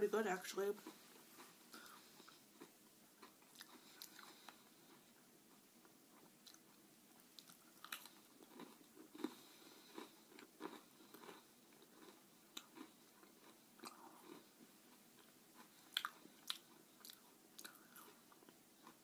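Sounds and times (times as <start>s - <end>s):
chewing crunchy cookie: 0.8s - 19.0s.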